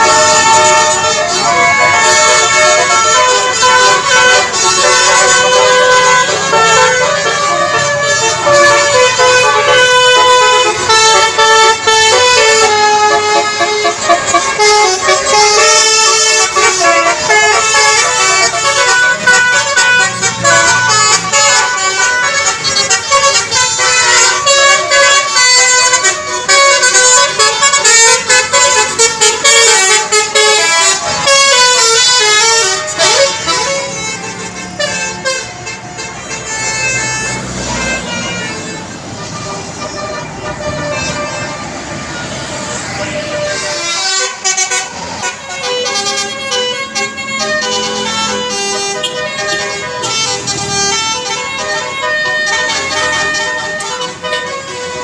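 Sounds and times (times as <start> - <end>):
multi-tone bus horn melody: 0.0 - 55.0.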